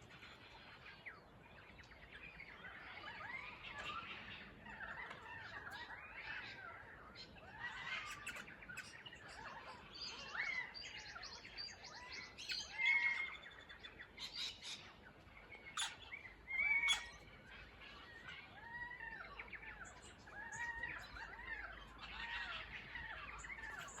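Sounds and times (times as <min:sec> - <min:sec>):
birds calling and chirping: 0:00.0 - 0:24.0.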